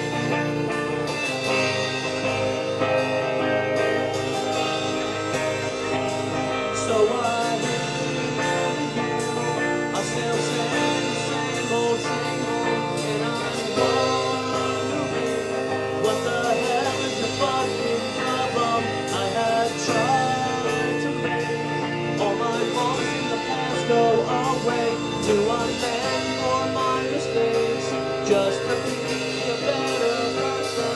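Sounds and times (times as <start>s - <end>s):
drums with cymbals: 0.0s - 30.9s
electric guitars: 0.0s - 30.9s
person singing: 0.0s - 30.9s.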